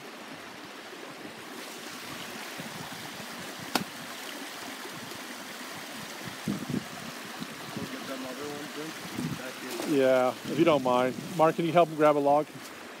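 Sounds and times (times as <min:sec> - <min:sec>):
creek water running over stones: 0:00.0 - 0:13.0.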